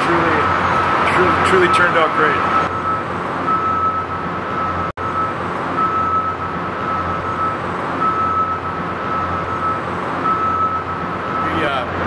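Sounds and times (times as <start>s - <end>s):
warehouse noise: 0.0s - 12.0s
warning alarm beeping: 0.4s - 12.0s.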